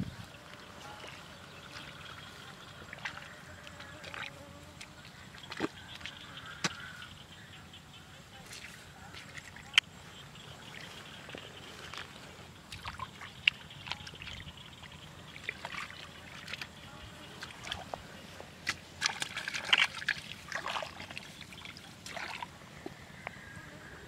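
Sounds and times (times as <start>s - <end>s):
hands squelching in muddy water: 0.4s - 7.1s, 8.4s - 23.0s.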